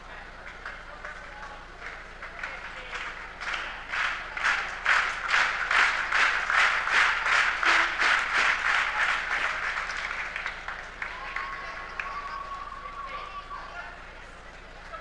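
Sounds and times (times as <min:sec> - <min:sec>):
crowd clapping in unison: 0:00.0 - 0:13.3.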